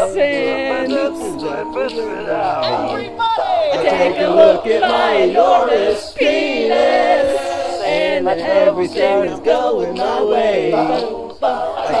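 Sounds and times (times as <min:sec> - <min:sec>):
voices singing a cappella: 0:00.0 - 0:12.0.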